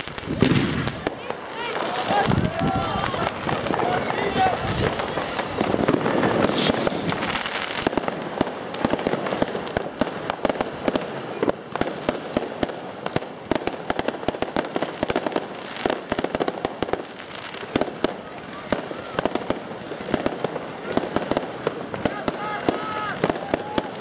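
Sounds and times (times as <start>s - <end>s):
firework crackling pops: 0.0s - 24.0s
firework rushing hiss: 0.0s - 24.0s.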